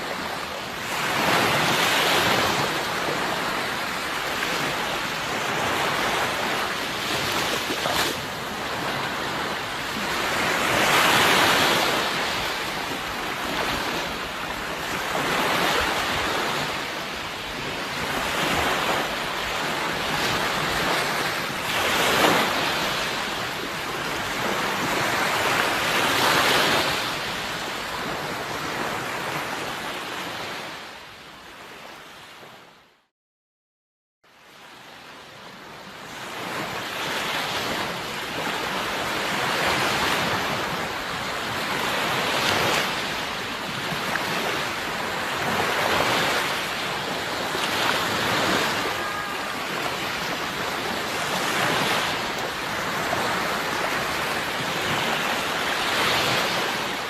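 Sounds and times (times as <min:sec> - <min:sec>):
sea waves washing in: 0:00.0 - 0:32.4, 0:36.0 - 0:57.0.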